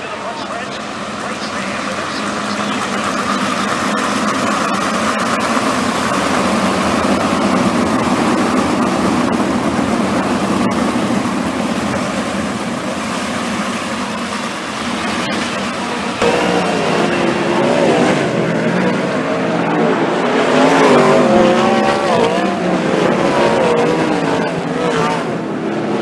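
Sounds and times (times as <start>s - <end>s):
racing car engines droning: 0.0s - 26.0s.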